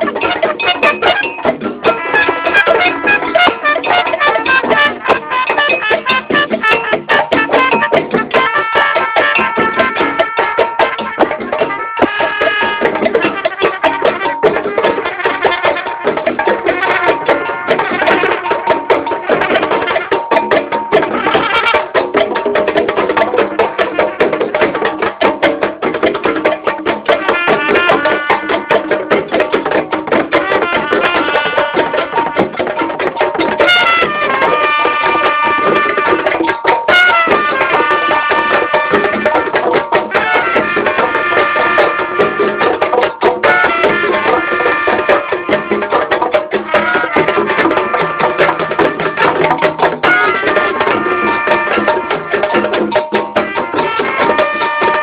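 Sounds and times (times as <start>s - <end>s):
hand drums playing fast rhythm: 0.0s - 55.0s.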